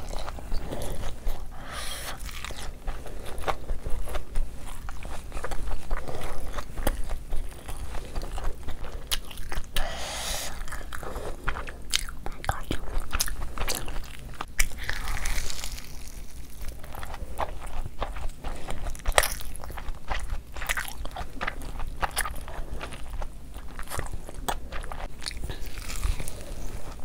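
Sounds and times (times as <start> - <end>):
crunchy chewing: 0.0 - 27.0.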